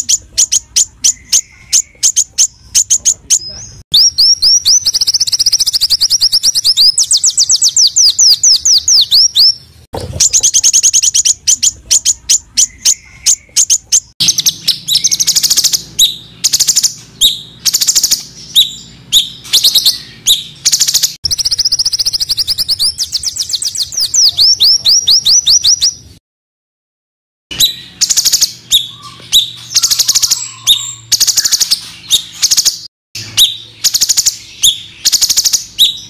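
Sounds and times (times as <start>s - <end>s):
songbirds singing rapid trills: 0.0s - 26.2s, 27.5s - 36.0s.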